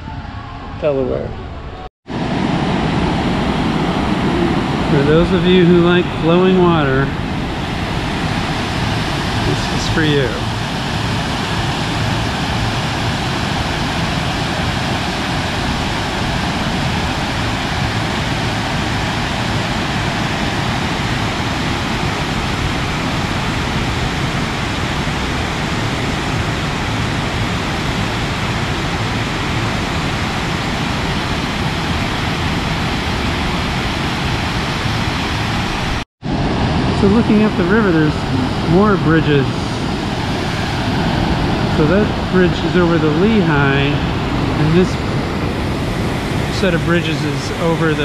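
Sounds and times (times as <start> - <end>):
river water rushing: 2.1 - 48.0.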